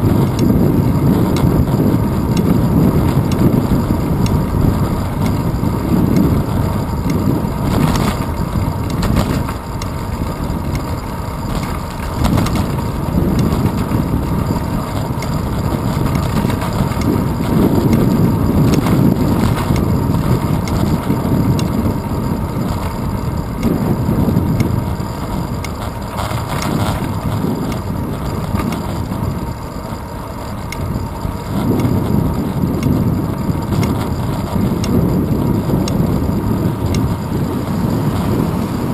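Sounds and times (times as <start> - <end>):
road rumble: 0.0 - 38.9
wind buffeting: 0.0 - 38.9.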